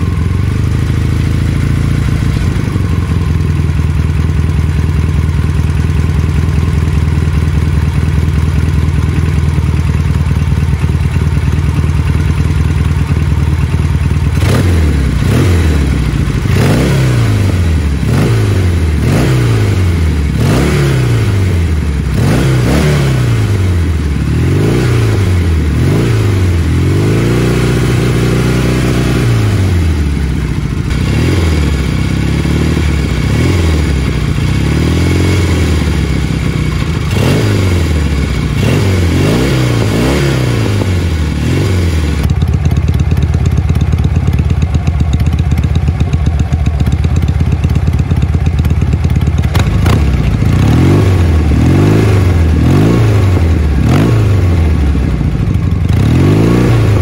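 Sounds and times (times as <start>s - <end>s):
motorcycle engine idling: 0.0s - 57.0s
motorcycle engine revving: 0.0s - 57.0s.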